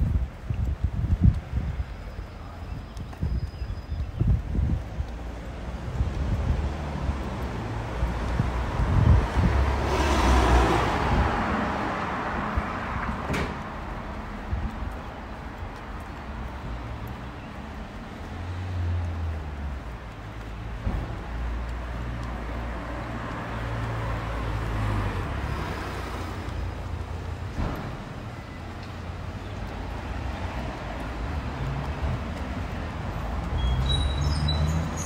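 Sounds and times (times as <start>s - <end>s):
road traffic engine rumble: 0.0s - 35.0s
car passing: 5.2s - 35.0s.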